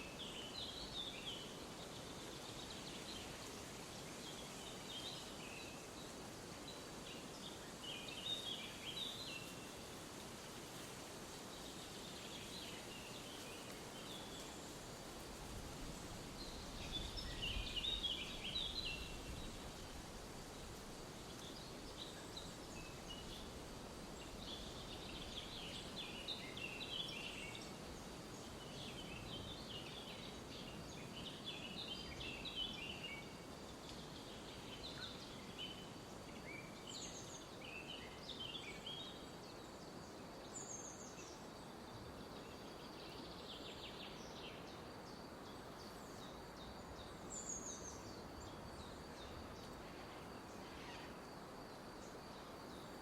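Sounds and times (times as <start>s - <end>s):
soft steady background noise: 0.0s - 53.0s
songbirds chirping: 0.0s - 53.0s.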